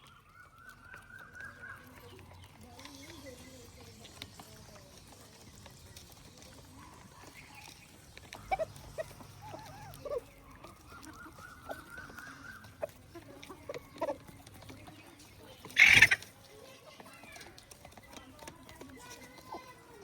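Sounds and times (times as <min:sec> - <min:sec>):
drawn-out poultry call: 0:00.0 - 0:20.0
poultry clucking: 0:00.9 - 0:20.0.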